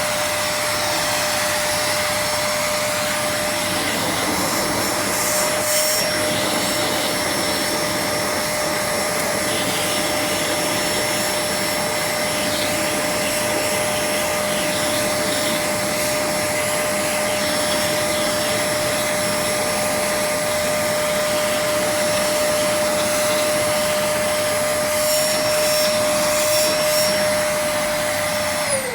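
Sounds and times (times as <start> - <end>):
vacuum cleaner whining: 0.0 - 28.9.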